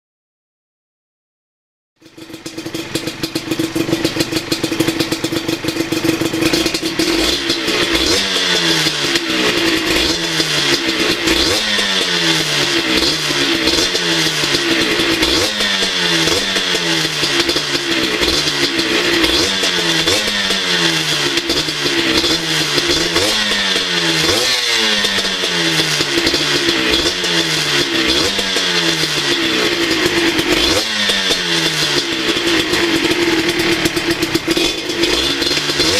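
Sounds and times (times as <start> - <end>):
motorcycle engine revving: 2.0 - 35.9.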